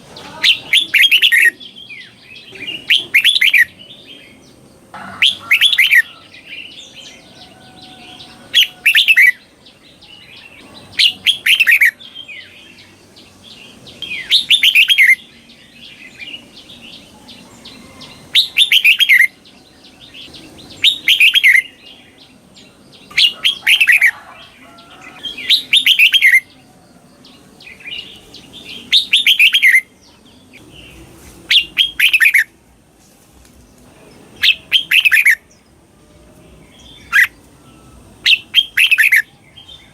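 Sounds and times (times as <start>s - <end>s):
bird singing warbling phrases: 0.0s - 32.6s, 34.0s - 35.8s, 36.4s - 39.9s.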